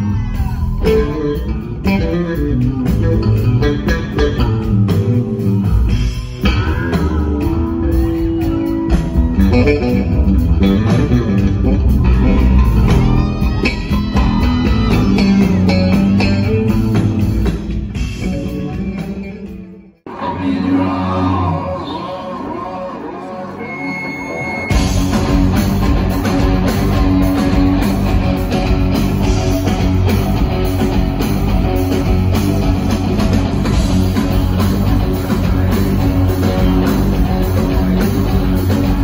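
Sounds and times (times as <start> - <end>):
electric bass guitar line: 0.0 - 20.0, 24.6 - 39.0
live rock band playing: 0.0 - 20.2, 23.5 - 39.0
electric guitar bending notes: 0.7 - 20.0, 21.5 - 39.0.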